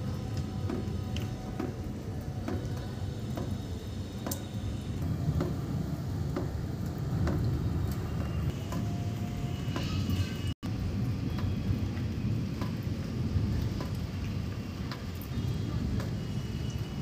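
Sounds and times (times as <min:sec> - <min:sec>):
low rumble of rain: 0:00.0 - 0:17.0
water dripping onto wet concrete: 0:00.0 - 0:17.0.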